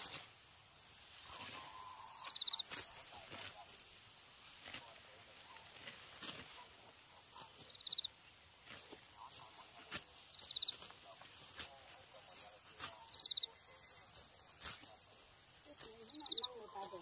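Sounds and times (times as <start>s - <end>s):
sickles cutting dry rice stalks: 0.0s - 17.0s.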